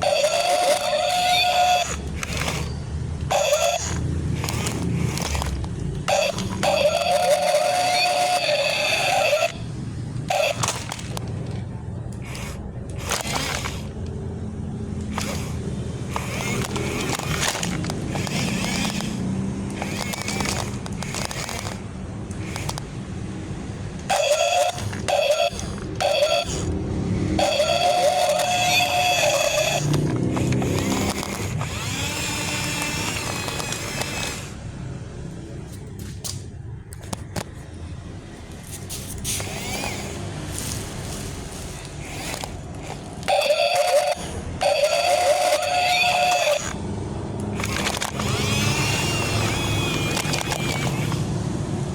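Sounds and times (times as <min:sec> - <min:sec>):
sharp clicks and knocks: 0:00.0 - 0:14.2, 0:14.9 - 0:23.2, 0:27.4 - 0:34.6, 0:35.6 - 0:37.7, 0:38.4 - 0:51.4
excavator engine droning: 0:00.0 - 0:51.9
hydraulic whine: 0:00.0 - 0:51.9.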